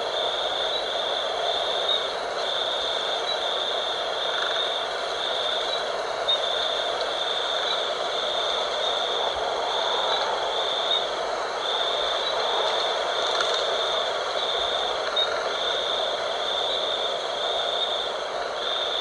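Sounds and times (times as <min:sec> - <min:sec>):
night insects chorus: 0:00.0 - 0:19.0
steady hiss: 0:00.0 - 0:19.0.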